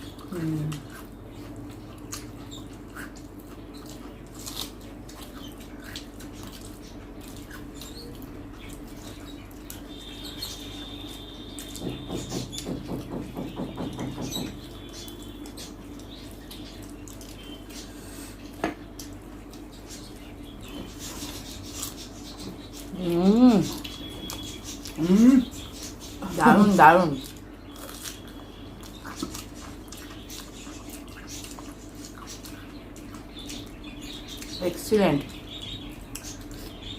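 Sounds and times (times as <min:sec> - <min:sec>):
chewing: 0:00.0 - 0:11.9, 0:14.7 - 0:34.6, 0:35.2 - 0:36.9.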